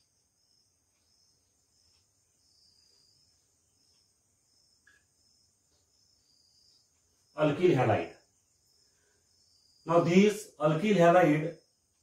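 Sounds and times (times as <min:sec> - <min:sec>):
high pulsing hiss: 0:00.0 - 0:12.0.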